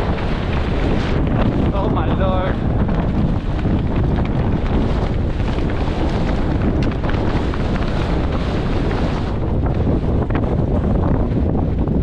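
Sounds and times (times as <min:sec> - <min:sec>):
mountain bike rattling over rocks: 0:00.0 - 0:12.0
wind buffeting microphone: 0:00.0 - 0:12.0.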